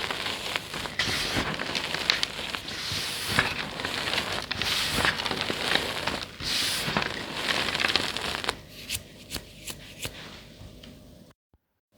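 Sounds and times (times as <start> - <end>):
chalk crunching by hand: 0.0 - 10.3.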